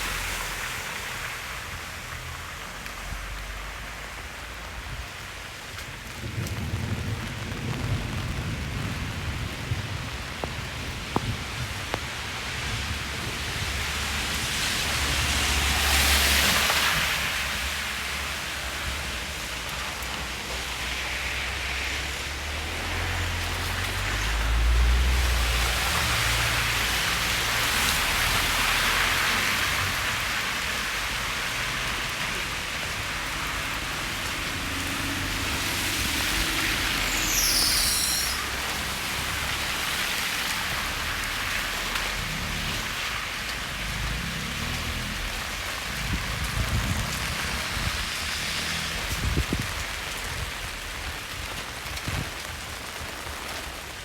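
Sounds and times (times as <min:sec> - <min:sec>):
rain on a wet street: 0:00.0 - 0:54.0.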